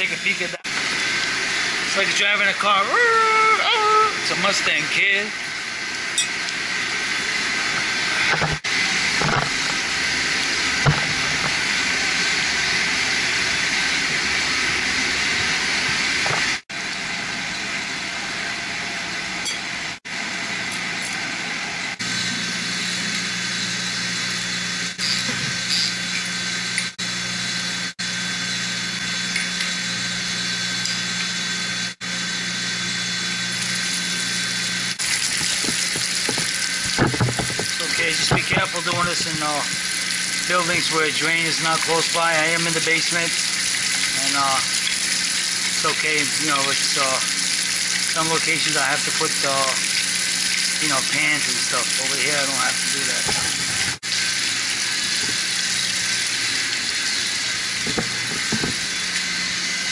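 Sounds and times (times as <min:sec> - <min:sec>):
rushing water and pumps: 0:00.0 - 0:28.5, 0:32.3 - 0:59.9.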